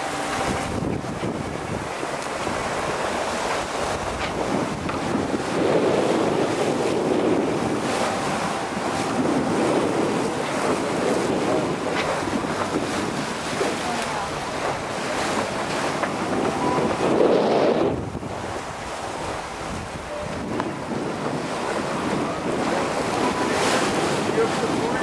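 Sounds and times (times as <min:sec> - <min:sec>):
water slapping along a hull: 0:00.0 - 0:25.0
wind buffeting microphone: 0:00.0 - 0:25.0.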